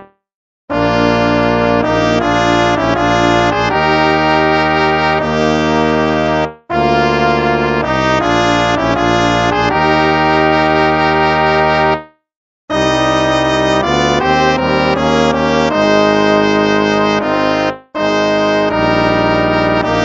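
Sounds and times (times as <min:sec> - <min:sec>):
brass ensemble playing hymn: 0:00.7 - 0:12.1, 0:12.7 - 0:20.0.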